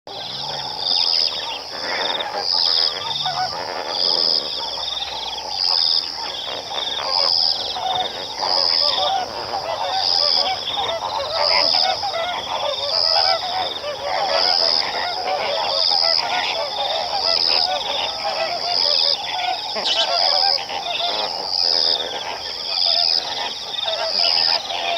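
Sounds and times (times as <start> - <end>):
flamingos honking: 0.1 - 24.9.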